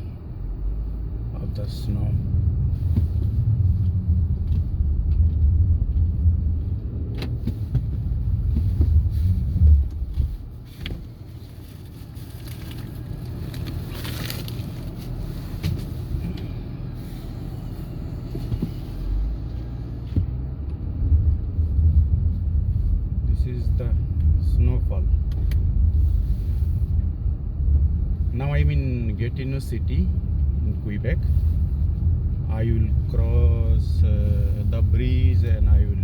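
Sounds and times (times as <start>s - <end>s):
car rumbling on road: 0.0s - 36.0s.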